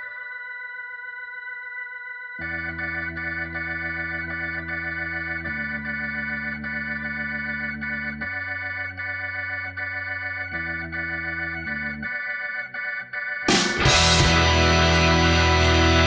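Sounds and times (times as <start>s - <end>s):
organ sustained chords: 0.0s - 16.0s.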